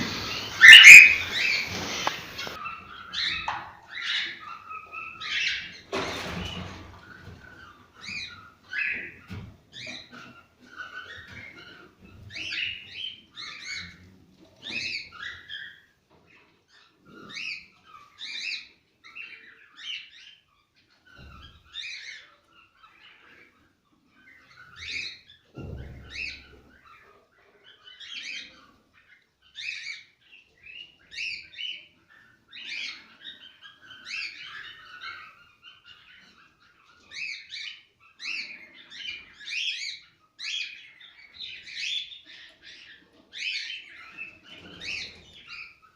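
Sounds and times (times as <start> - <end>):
cockatiels chirping and warbling: 0.0 - 45.9.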